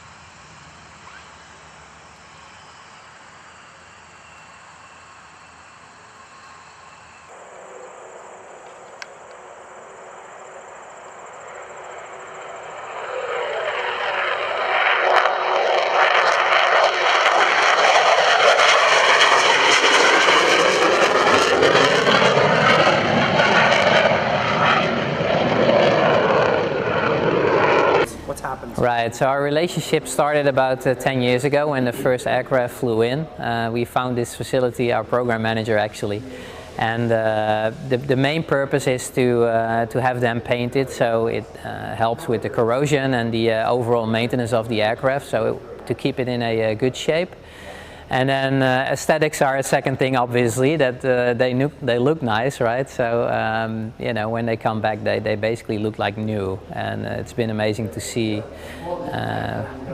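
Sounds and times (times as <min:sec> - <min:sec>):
fighter jet engine: 0:00.0 - 0:59.9.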